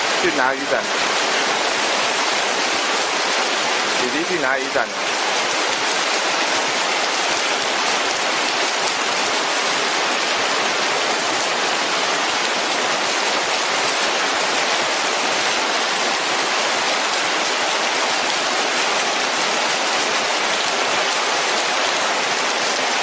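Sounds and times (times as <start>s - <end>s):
floodwater rushing down ditch: 0.0s - 23.0s.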